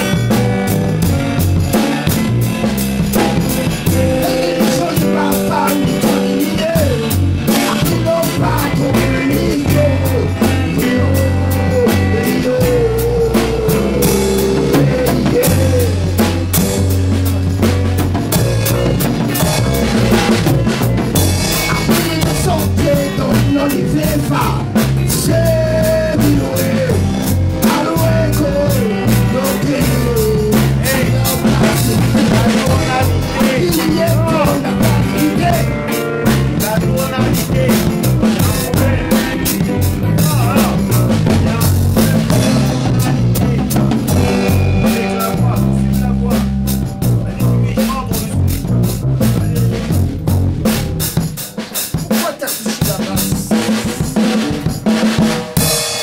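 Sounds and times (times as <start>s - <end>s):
drum kit beat: 0.0s - 56.0s
stepping bass line: 0.0s - 56.0s.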